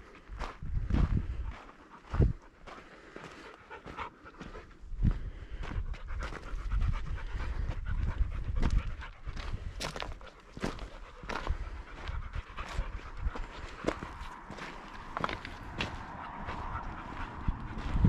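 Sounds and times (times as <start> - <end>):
dog panting hard: 1.2 - 18.0.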